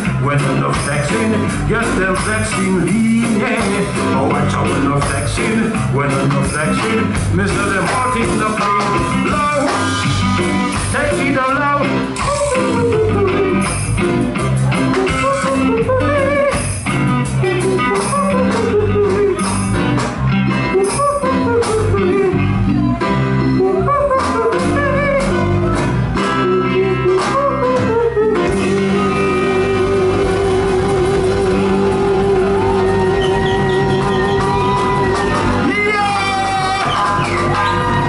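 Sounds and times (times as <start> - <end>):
bending lead guitar melody: 0.0 - 38.0
live rock band playing: 0.0 - 38.0.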